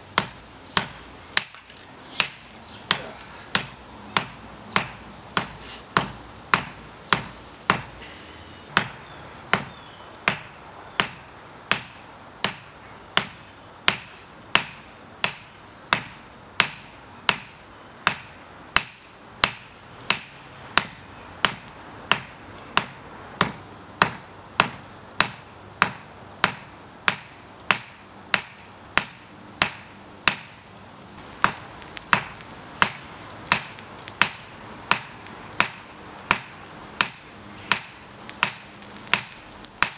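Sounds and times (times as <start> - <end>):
hammer ringing on anvil: 0.2 - 8.1, 8.8 - 30.8, 31.4 - 39.9.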